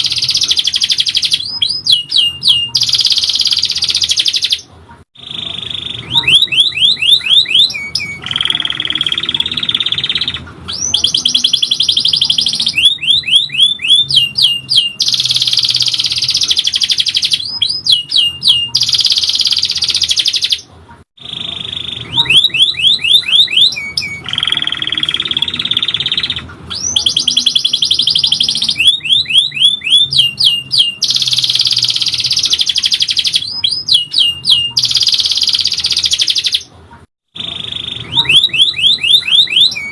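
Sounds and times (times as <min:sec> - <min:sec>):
canary singing trills and whistles: 0:00.0 - 0:36.7, 0:37.3 - 0:39.9.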